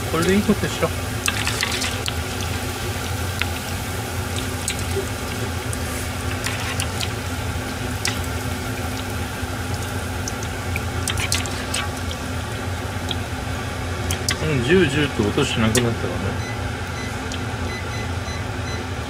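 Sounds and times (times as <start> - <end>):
deep-frying sizzle with pops: 0.0 - 19.0.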